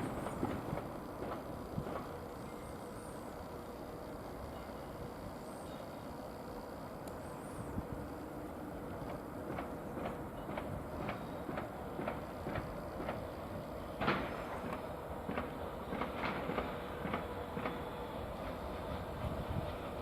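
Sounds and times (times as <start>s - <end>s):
freight train rumble: 0.0s - 20.0s
train wheels clicking over rail joints: 0.0s - 20.0s.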